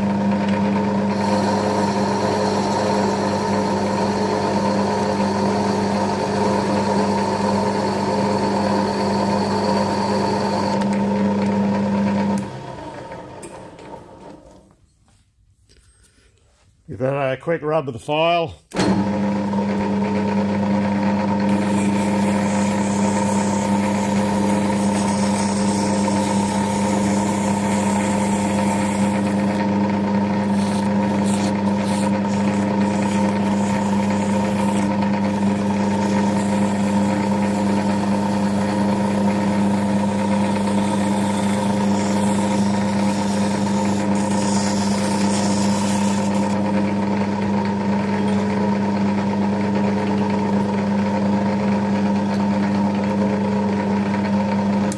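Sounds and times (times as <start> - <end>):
lathe motor humming: 0.0 - 14.5, 18.7 - 54.9.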